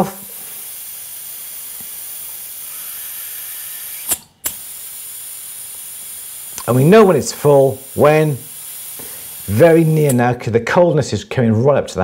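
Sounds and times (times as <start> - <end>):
valve clicks: 0.0 - 10.3
gas hissing: 0.0 - 10.7.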